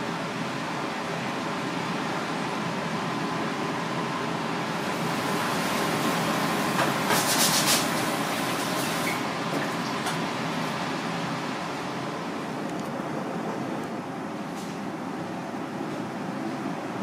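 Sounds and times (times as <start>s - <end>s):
busy shop background hum: 0.0s - 17.0s.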